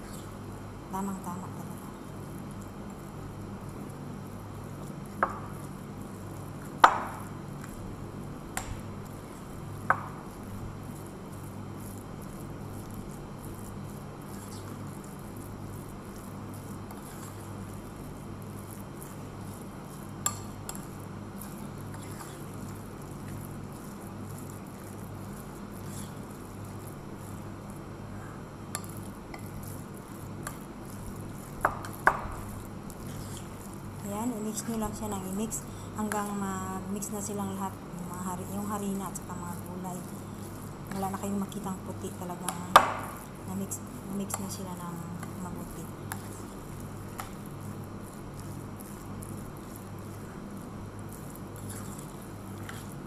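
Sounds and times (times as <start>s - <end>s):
low steady hum: 0.0s - 53.0s
spoon stirring thick batter: 1.5s - 53.0s.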